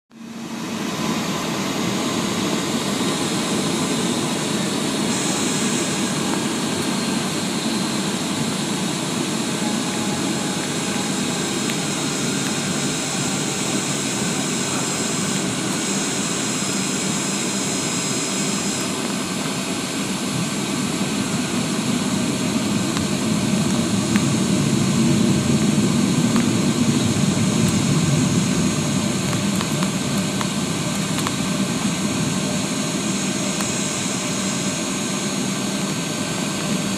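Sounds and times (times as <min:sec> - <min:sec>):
jet engine roar in cabin: 0:00.1 - 0:36.9.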